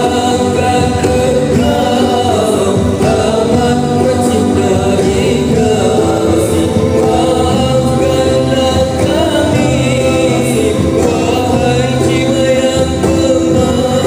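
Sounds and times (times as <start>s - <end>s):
men singing devotional song: 0.0s - 14.0s.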